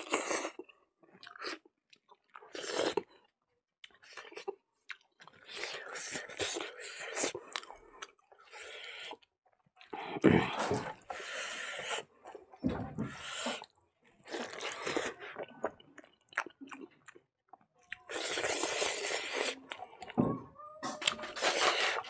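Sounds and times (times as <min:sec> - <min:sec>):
person chewing: 0:00.0 - 0:12.4, 0:13.0 - 0:22.0.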